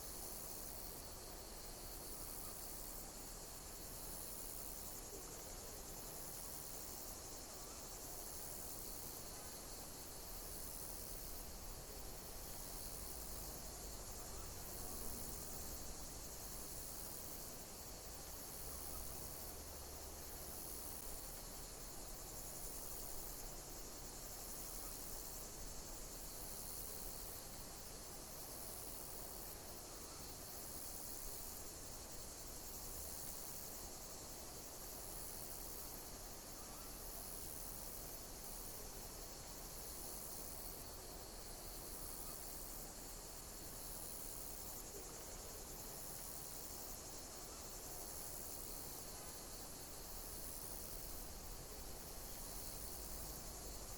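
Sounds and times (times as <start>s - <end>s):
insect chirp: 0.0s - 53.9s
insects buzzing: 0.0s - 53.9s.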